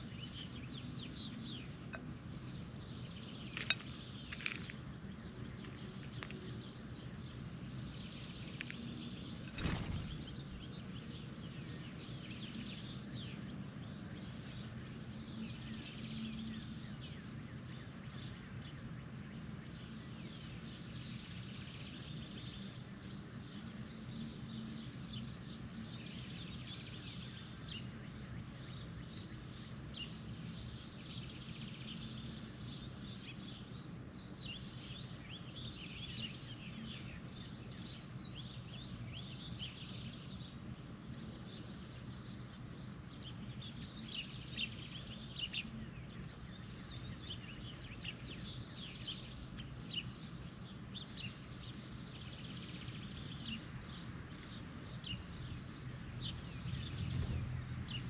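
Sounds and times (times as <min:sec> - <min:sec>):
birds chirping: 0:00.0 - 0:58.0
low background hum: 0:00.0 - 0:58.0.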